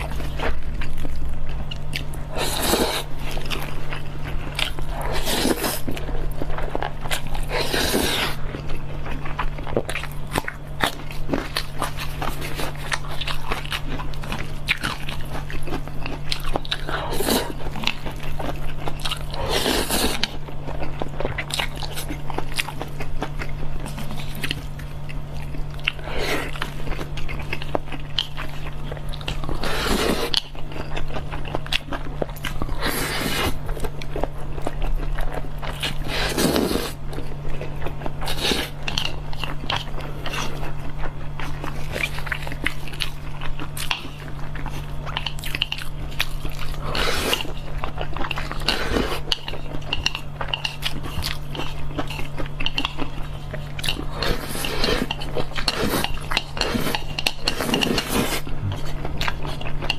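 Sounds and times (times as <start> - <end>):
loud eating sound: 0.0 - 59.9.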